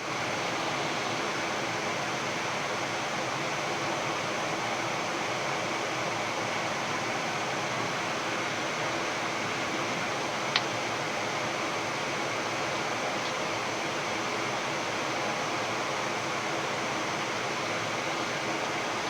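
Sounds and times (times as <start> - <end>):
airflow and air-conditioning hiss: 0.0 - 19.0.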